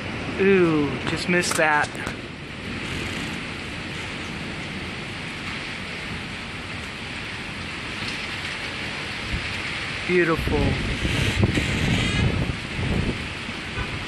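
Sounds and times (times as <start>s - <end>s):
rain on carport covers: 0.0s - 14.0s
low rumble of thunder: 2.0s - 14.0s.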